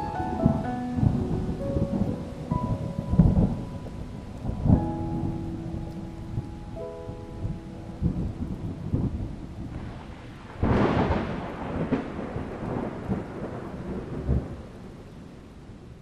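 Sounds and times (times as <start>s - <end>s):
thunder crack and rumble: 0.0s - 6.7s, 7.3s - 15.8s
rain hissing: 0.0s - 16.0s.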